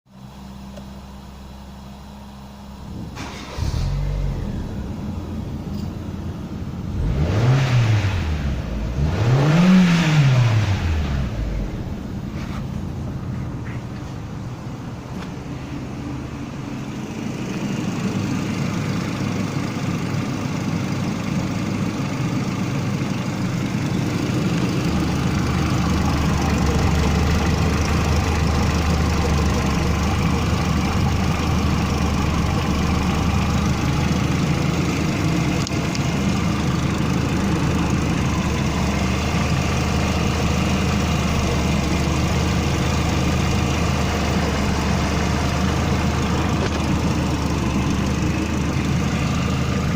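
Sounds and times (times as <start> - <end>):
car engine idling: 0.1 - 49.9.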